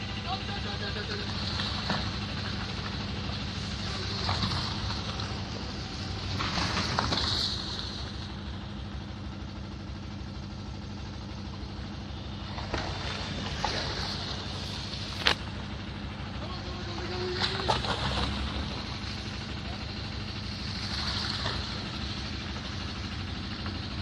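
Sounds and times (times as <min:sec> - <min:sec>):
road noise: 0:00.0 - 0:24.0
vehicle engines humming: 0:00.0 - 0:24.0.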